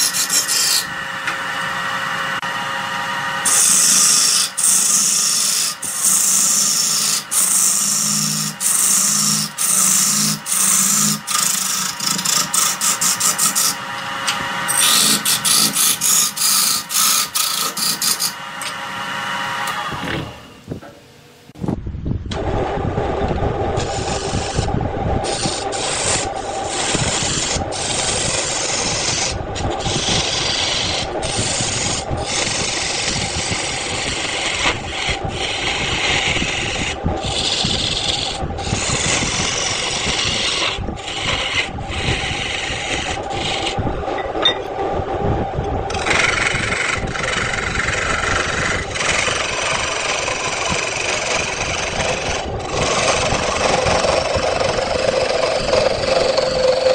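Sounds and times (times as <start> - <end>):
wood lathe motor hum: 0.0 - 20.9, 22.4 - 56.9
tool scraping spinning wood: 0.0 - 21.0, 22.4 - 56.9.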